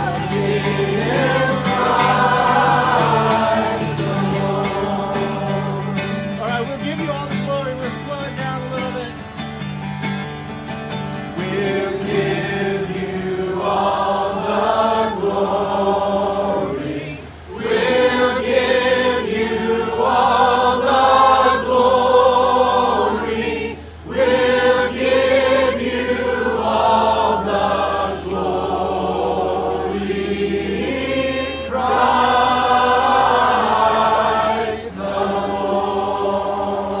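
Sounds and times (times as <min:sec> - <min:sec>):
congregation singing a hymn: 0:00.0 - 0:09.1, 0:11.1 - 0:37.0.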